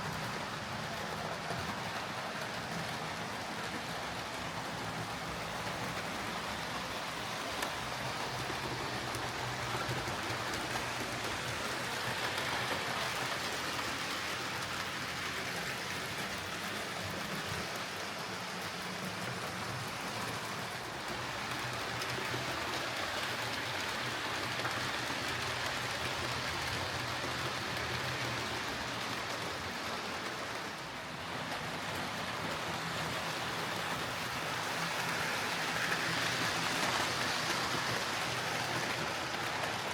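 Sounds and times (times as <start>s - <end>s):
wheels rattling on rail: 0.0s - 39.9s.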